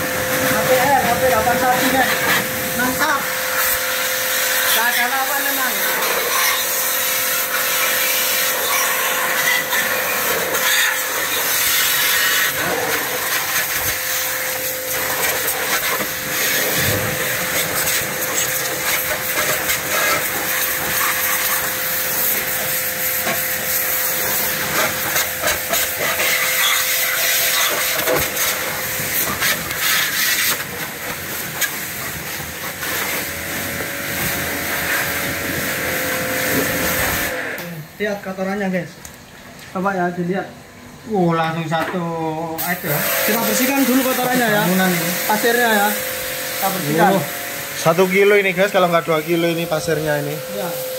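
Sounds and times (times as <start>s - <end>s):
pump motor hum: 0.0s - 38.0s, 42.6s - 50.9s
pressure washer water jet hissing: 0.0s - 38.1s, 42.5s - 50.9s.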